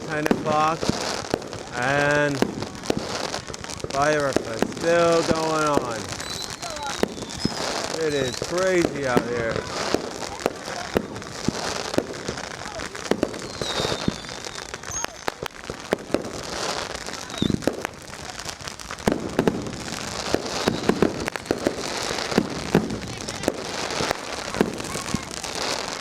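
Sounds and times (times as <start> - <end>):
firecrackers crackling: 0.0 - 26.0
firework bangs: 0.0 - 26.0
falling firework whistle: 4.2 - 18.0, 18.8 - 26.0.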